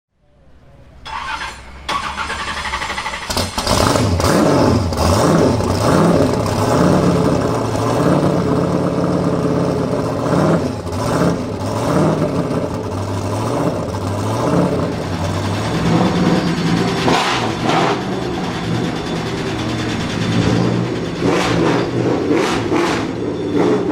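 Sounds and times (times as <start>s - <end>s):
car engine starting: 0.2s - 23.9s
car engine revving: 0.4s - 23.9s.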